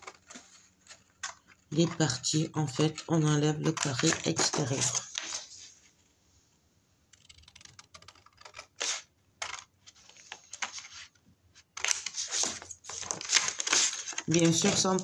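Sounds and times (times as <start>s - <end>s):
paper handling: 0.0s - 5.7s, 7.5s - 15.0s.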